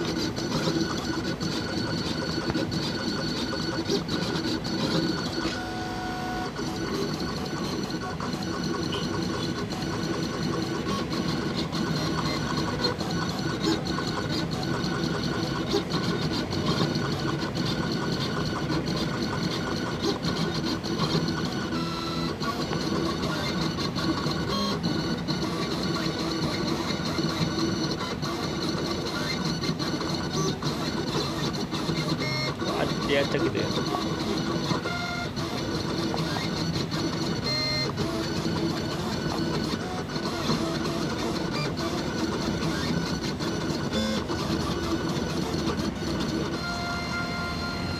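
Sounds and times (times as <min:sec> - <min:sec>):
cutting plotter motors whirring: 0:00.0 - 0:47.9.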